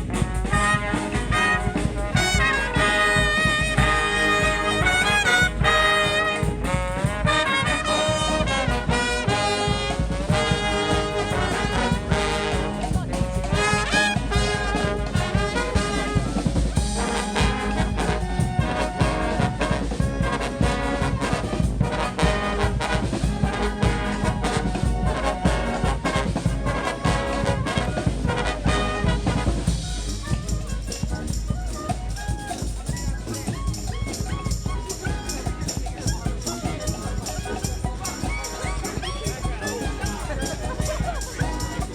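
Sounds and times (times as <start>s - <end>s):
brass band playing: 0.0s - 41.9s
busy drum beat: 0.0s - 41.9s.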